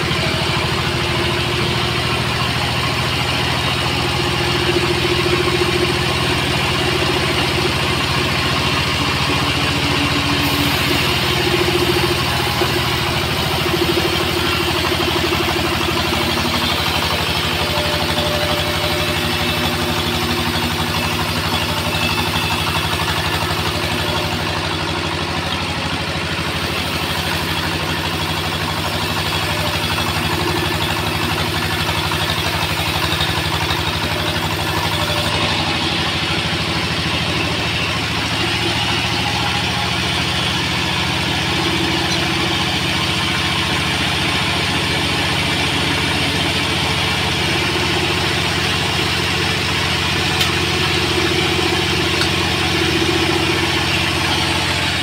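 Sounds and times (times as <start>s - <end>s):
sawmill mechanical drone: 0.0s - 55.0s.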